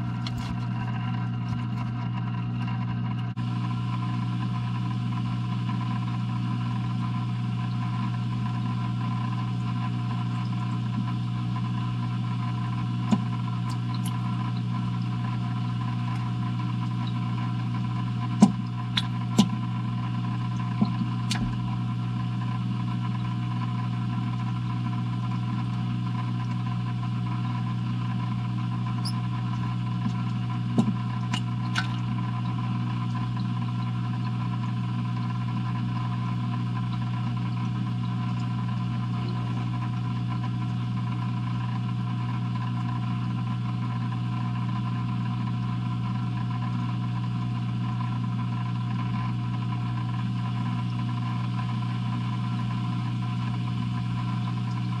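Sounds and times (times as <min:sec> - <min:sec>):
aquarium filter motor hum: 0:00.0 - 0:55.0.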